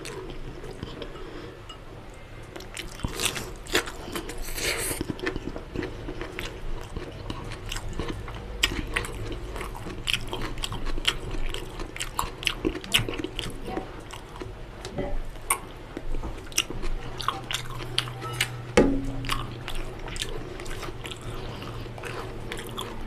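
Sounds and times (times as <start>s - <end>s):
wet chewing: 2.6s - 14.6s, 15.4s - 18.6s, 19.2s - 23.0s.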